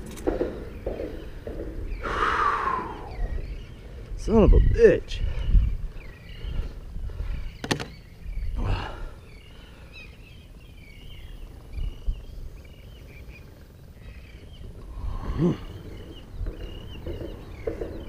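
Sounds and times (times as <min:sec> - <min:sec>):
small birds chirping: 0:00.0 - 0:18.0
wind rumble on microphone: 0:00.0 - 0:18.0.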